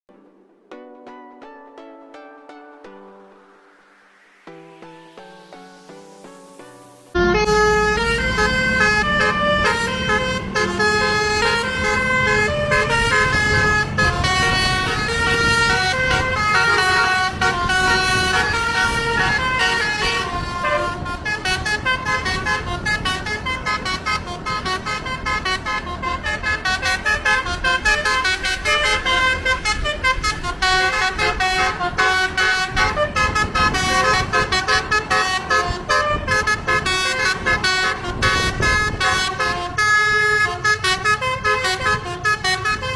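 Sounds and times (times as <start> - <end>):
bus engine running: 7.0 - 42.9
multi-tone melodic air horn: 7.1 - 42.9.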